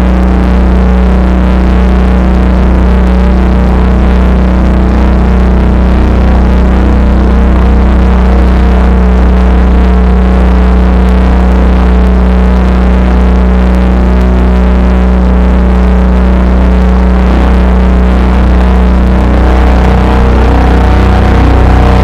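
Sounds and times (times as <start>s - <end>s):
drone noise music: 0.0s - 22.0s.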